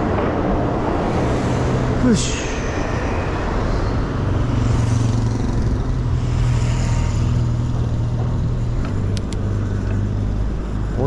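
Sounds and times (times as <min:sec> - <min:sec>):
street traffic: 0:00.0 - 0:11.0
vehicle low hum: 0:00.0 - 0:11.0.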